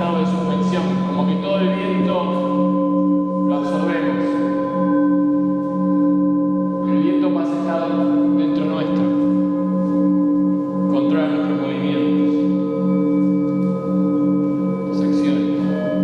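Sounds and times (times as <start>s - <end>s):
ringing singing bowl tones: 0.0s - 16.0s.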